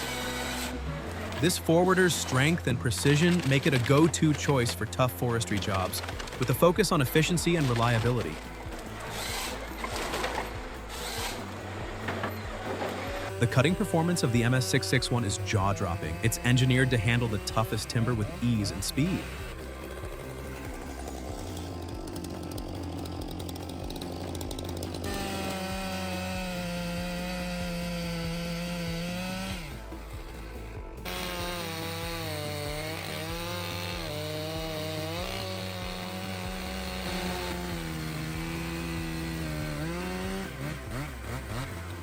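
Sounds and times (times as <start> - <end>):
chainsaw cutting timber: 0.0 - 42.0.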